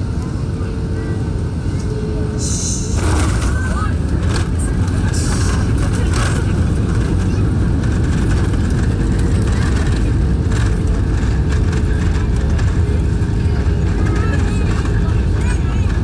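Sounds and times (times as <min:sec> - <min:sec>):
airliner rumble inside cabin: 0:00.0 - 0:16.0.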